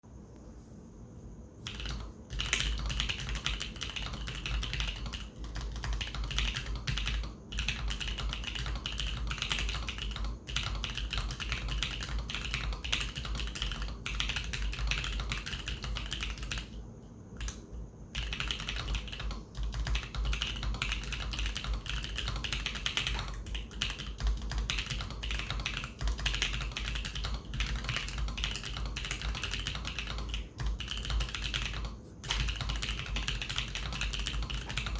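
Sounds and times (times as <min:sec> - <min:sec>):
fast mechanical keyboard typing: 0:01.6 - 0:16.8, 0:17.4 - 0:34.9.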